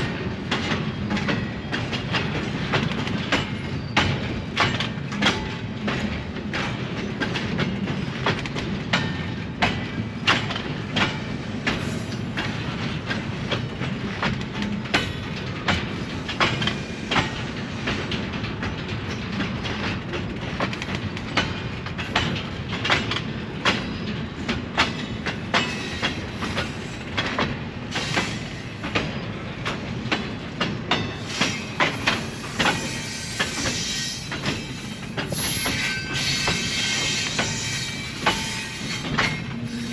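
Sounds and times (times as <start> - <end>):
train rolling past: 0.0 - 39.9
wheels clacking over rail joints: 0.0 - 39.9.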